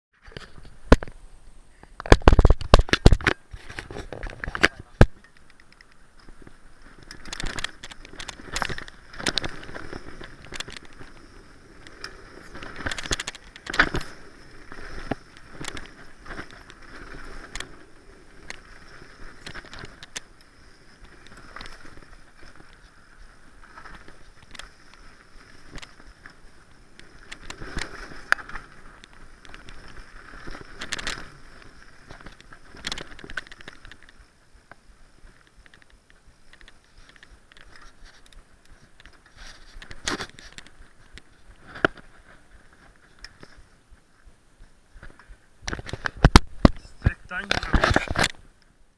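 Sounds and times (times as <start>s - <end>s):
bike tyres rolling over dirt: 0.1s - 48.9s
bike knocking and rattling: 2.0s - 48.9s.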